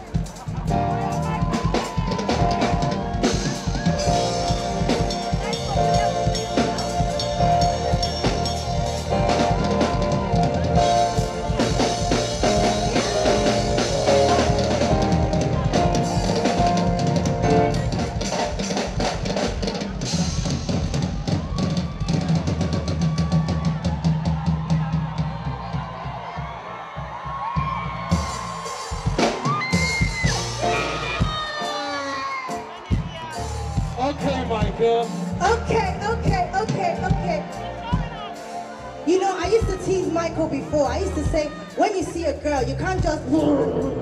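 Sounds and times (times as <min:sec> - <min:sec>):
band holding notes: 0:00.0 - 0:26.4, 0:27.9 - 0:44.0
drum kit solo: 0:00.0 - 0:44.0.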